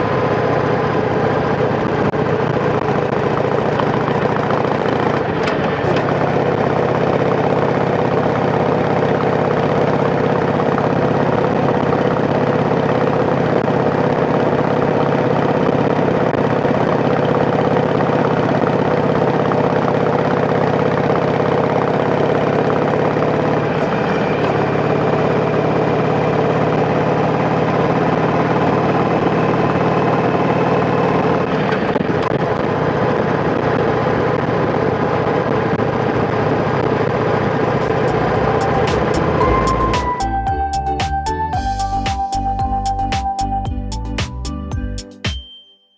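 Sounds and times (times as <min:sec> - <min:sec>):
motorcycle engine running: 0:00.0 - 0:43.1.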